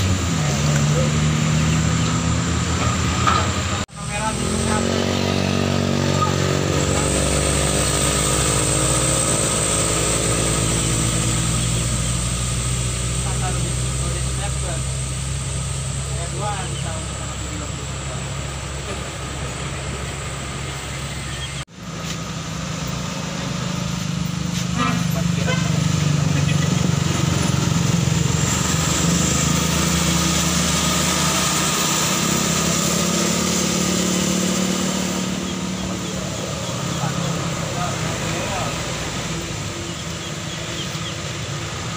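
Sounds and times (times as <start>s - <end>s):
bus engine pulling uphill: 0.0s - 41.9s
diesel truck engine climbing: 0.0s - 41.9s.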